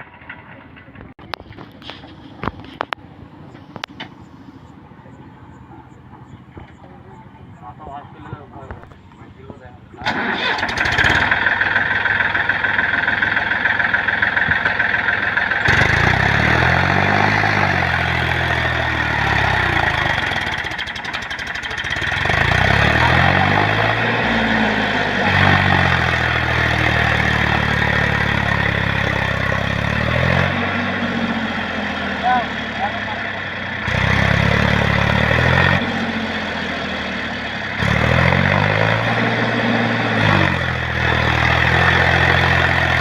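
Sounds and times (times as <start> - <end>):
tractor engine revving: 0.0 - 43.0.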